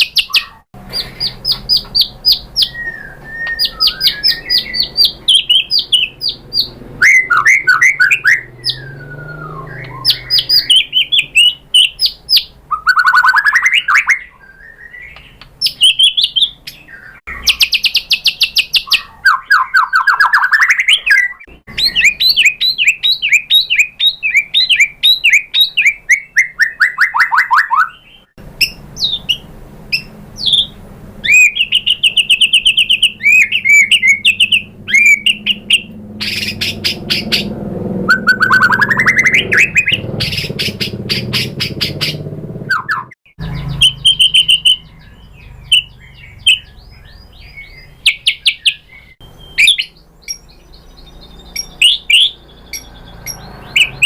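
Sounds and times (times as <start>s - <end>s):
songbird chattering and whistling: 0.0s - 54.0s.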